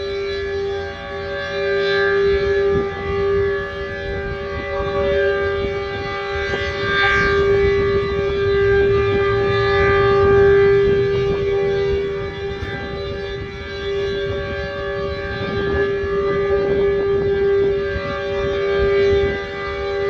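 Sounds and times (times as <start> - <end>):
dual-tone air-raid siren: 0.0 - 20.0.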